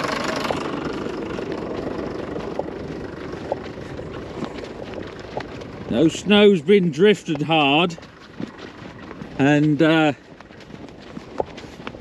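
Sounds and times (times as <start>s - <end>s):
footsteps crunching in snow: 0.0s - 12.0s
tractor engine running: 0.0s - 12.0s.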